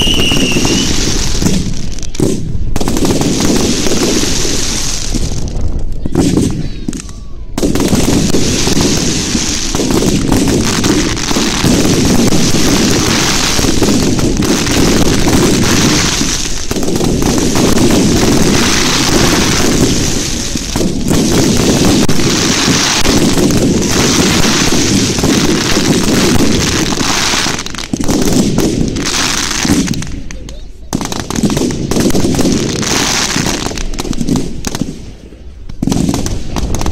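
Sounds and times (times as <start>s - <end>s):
fireworks bangs and crackling: 0.0s - 36.9s.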